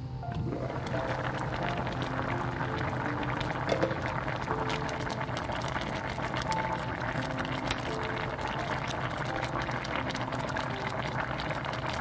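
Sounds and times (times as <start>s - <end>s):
stew boiling and bubbling: 0.2s - 12.0s.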